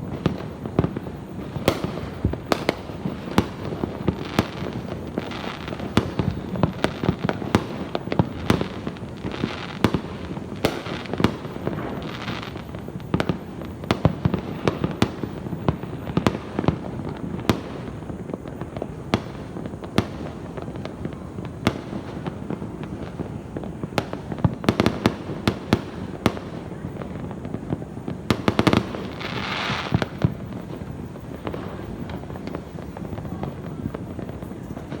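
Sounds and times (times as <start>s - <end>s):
distant fireworks rumble: 0.0s - 35.0s
firework bangs and pops: 0.0s - 35.0s
firework hiss: 0.0s - 35.0s.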